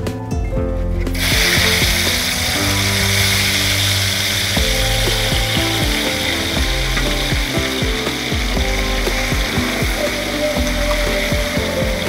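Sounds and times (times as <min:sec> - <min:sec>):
background music: 0:00.0 - 0:12.0
eel frying in hot oil: 0:01.2 - 0:12.0.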